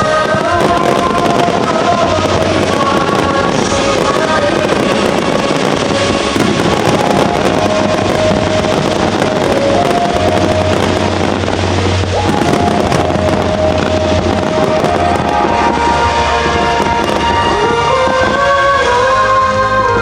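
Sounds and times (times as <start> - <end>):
fireworks crackling and bursting: 0.0 - 20.0
music with held melody: 0.0 - 20.0.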